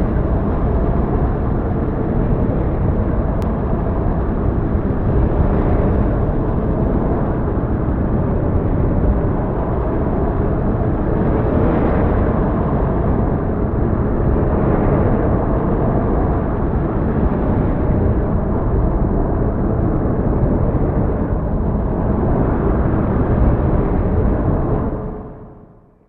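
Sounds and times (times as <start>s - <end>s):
wind blowing across microphone: 0.0s - 25.8s.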